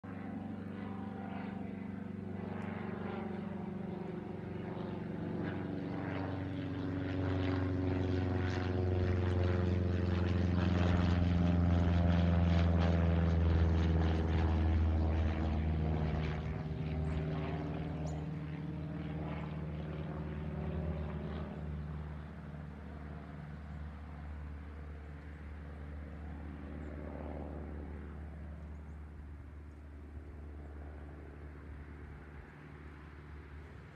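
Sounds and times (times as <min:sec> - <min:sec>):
propeller plane droning overhead: 0:00.0 - 0:33.9.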